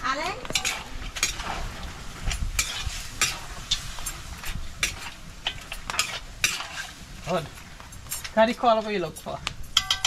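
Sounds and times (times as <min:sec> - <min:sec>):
metal spoon scraping wok: 0:00.0 - 0:08.9, 0:09.7 - 0:10.0
meat sizzling in pan: 0:00.0 - 0:10.0.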